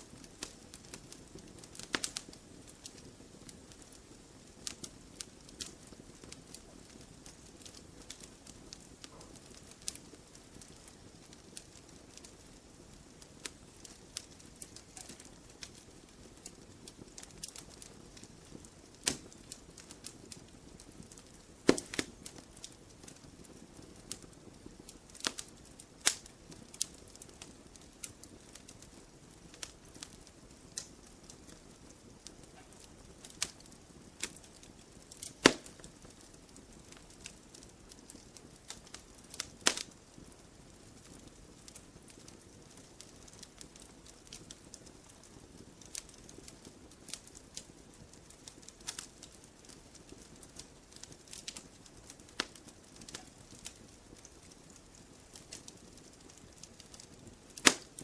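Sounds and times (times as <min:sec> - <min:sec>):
campfire logs crackling: 0:00.0 - 0:58.0.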